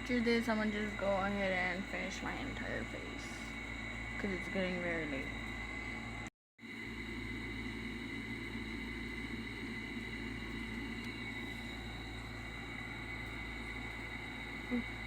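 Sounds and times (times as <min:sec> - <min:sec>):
background hiss and hum: 0:00.0 - 0:15.0
faint high whine: 0:00.0 - 0:15.0.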